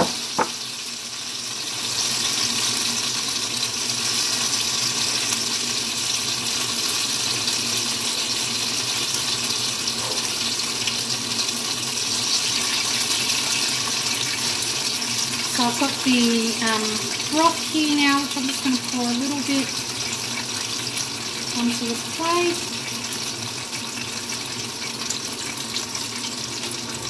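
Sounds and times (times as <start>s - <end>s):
tofu sizzling in hot oil: 0.0s - 27.0s.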